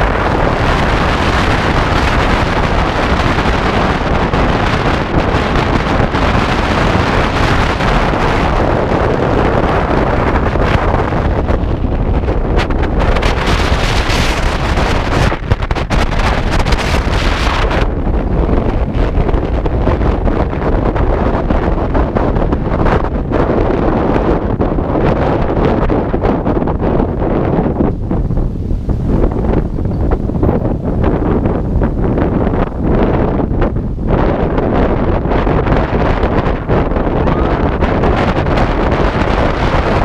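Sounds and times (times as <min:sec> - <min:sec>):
wind noise on microphone: 0:00.0 - 0:40.0.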